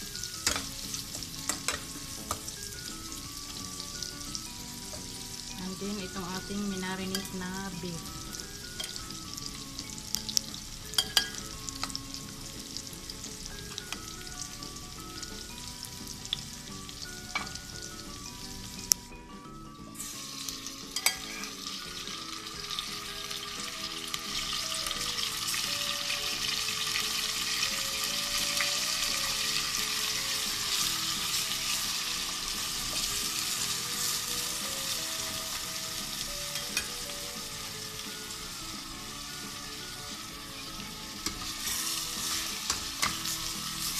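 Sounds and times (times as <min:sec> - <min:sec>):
food sizzling in hot oil: 0:00.0 - 0:43.9.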